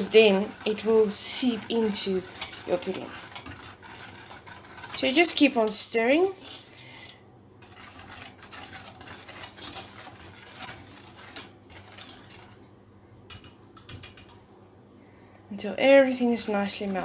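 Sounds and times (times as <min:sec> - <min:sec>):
whisk scraping a saucepan: 0:00.0 - 0:12.7, 0:16.0 - 0:17.0.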